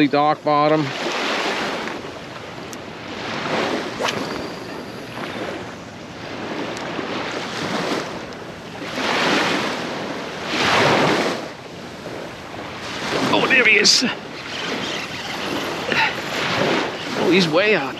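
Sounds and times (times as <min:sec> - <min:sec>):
small waves breaking on sand: 0:00.0 - 0:17.9.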